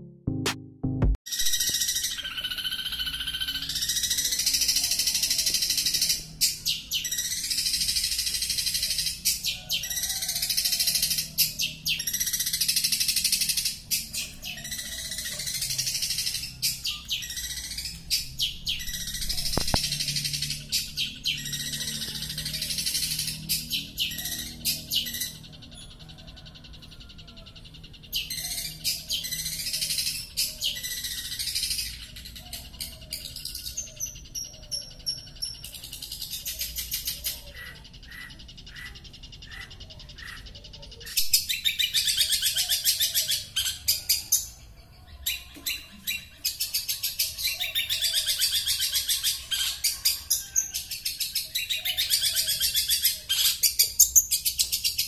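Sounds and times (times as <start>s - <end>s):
bird chattering song: 1.3s - 55.0s.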